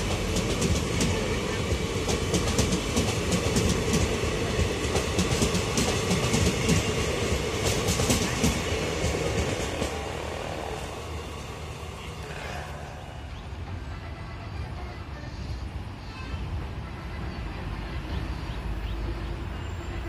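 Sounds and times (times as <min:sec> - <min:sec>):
train coaches rumbling past: 0:00.0 - 0:20.0.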